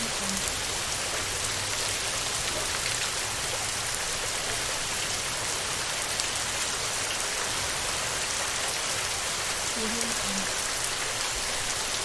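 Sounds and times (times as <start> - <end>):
heavy rain on a tin roof: 0.0 - 12.0.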